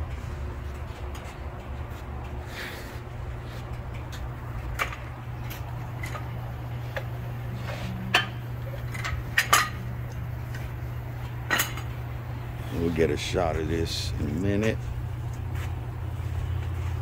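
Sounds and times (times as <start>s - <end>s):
boring bar humming: 0.0s - 17.0s.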